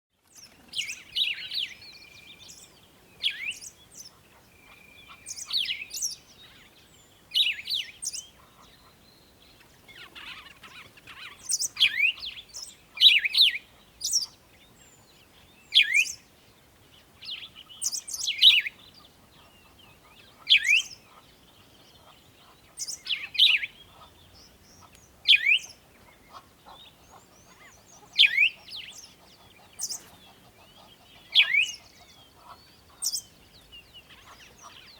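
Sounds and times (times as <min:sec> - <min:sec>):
faint bird chirps: 0:00.2 - 0:34.9.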